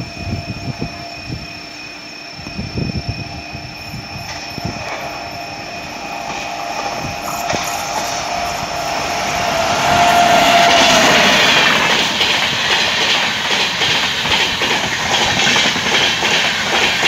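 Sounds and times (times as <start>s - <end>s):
diesel locomotive approaching: 0.0s - 17.0s
wind buffeting microphone: 2.4s - 17.0s.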